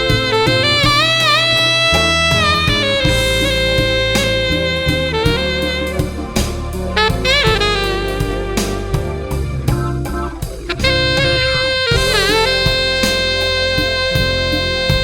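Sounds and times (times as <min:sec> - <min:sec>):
backing track of bass and drums: 0:00.0 - 0:15.0
saxophone playing jazz ballad: 0:00.0 - 0:15.0.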